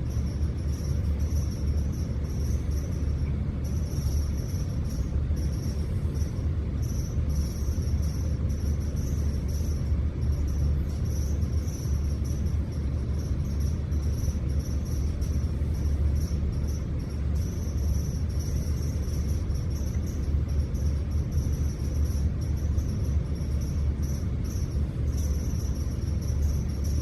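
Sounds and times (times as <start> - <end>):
faint high pulsing chirr: 0.0 - 27.0
low room rumble: 0.0 - 27.0.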